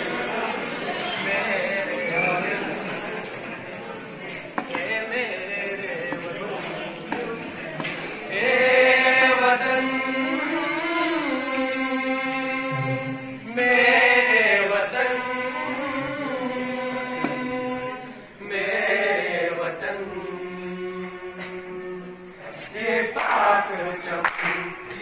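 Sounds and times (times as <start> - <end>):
students singing together: 0.0 - 25.0.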